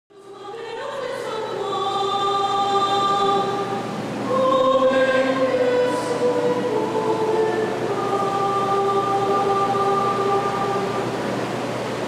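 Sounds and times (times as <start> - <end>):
mixed choir singing chords: 0.1 - 12.0.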